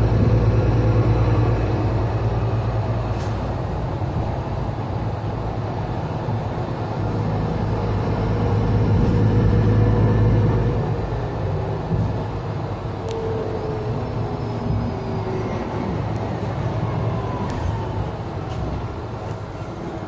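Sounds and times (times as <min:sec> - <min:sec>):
bus engine hum: 0:00.0 - 0:20.0
road noise: 0:00.0 - 0:20.0.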